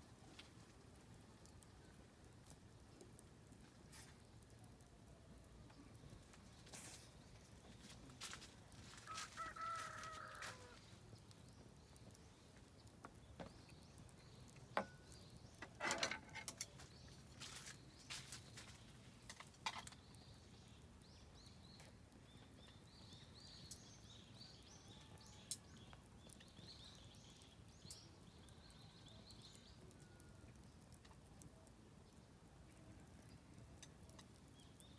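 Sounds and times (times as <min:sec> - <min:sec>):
campfire crackling and popping: 0:00.0 - 0:34.9
small birds chirping: 0:00.0 - 0:34.9.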